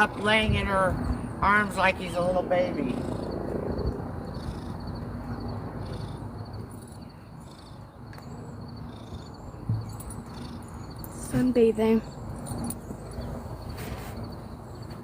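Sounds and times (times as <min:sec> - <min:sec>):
insects chirping: 0:02.9 - 0:15.0.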